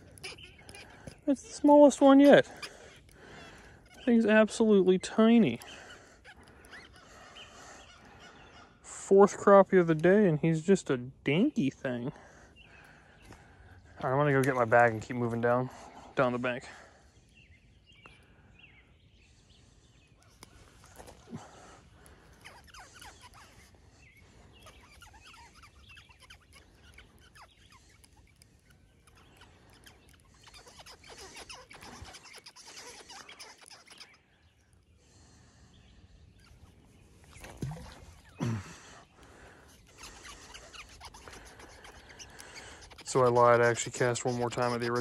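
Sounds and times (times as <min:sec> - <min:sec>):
bird chirps: 0:00.0 - 0:08.9, 0:17.1 - 0:45.0.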